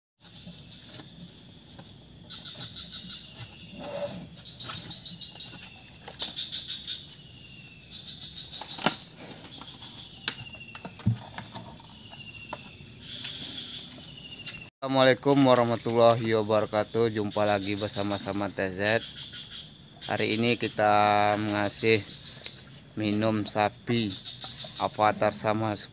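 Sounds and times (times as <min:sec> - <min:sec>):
insects chorus: 0:00.2 - 0:25.9.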